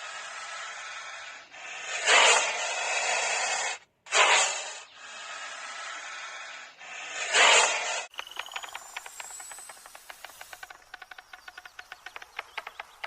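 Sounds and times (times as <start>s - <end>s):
loud hissing: 0.0s - 13.0s.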